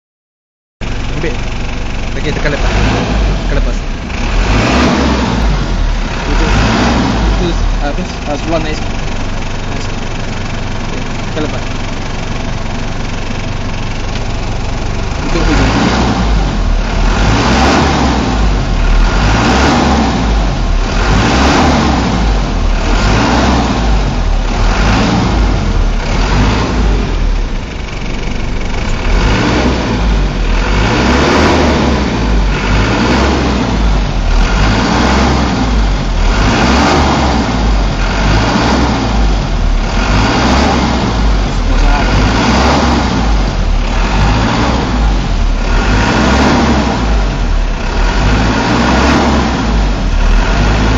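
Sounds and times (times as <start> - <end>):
truck engine revving: 0.8 - 50.9.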